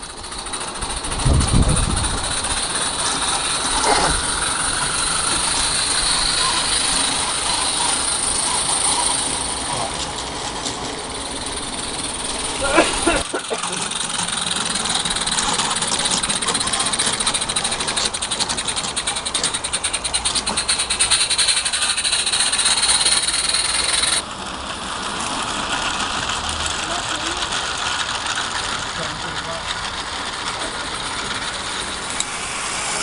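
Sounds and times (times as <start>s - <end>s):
model steam locomotive running: 0.0s - 33.0s
rapid exhaust beats: 0.0s - 33.0s
steam hiss: 0.0s - 33.0s.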